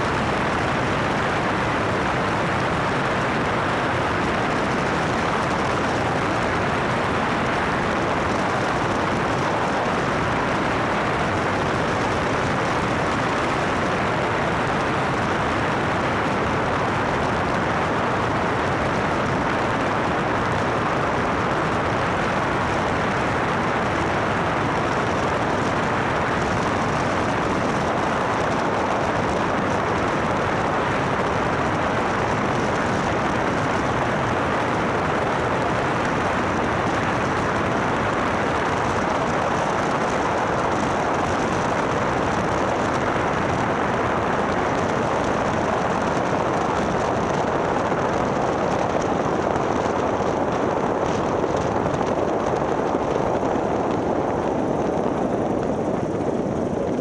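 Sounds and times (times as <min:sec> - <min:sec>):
propeller aircraft engine: 0:00.0 - 0:57.0.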